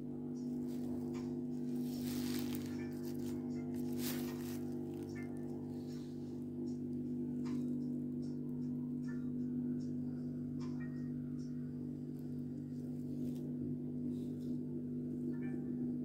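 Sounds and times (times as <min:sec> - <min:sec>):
low hum of held tones: 0:00.0 - 0:16.0.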